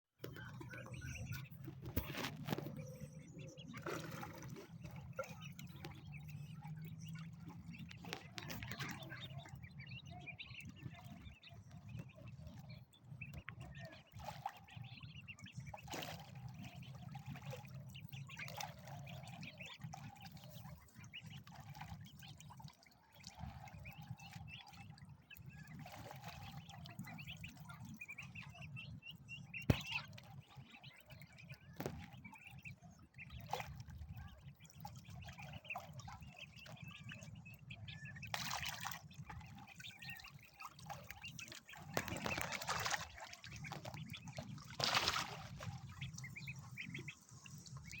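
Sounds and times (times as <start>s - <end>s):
ducks splashing and dabbling: 0.2s - 48.0s.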